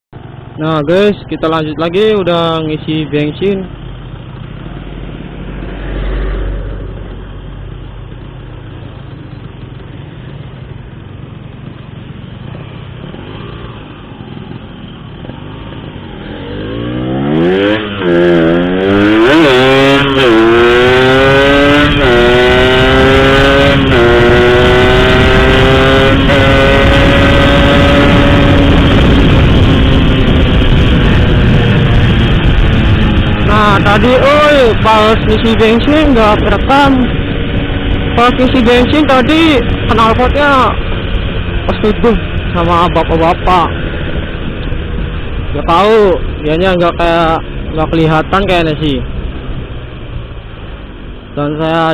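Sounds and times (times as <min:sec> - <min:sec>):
motorcycle engine accelerating: 0:00.2 - 0:51.9.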